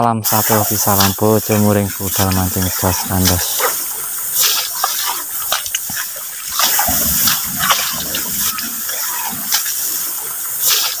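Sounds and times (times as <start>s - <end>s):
steady rushing hiss: 0.1s - 11.0s
footsteps wading through wet grass: 0.4s - 11.0s.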